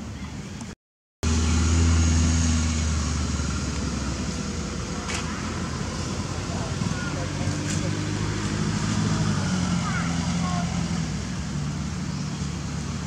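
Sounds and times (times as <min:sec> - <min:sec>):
vehicle engine running: 0:01.2 - 0:13.0.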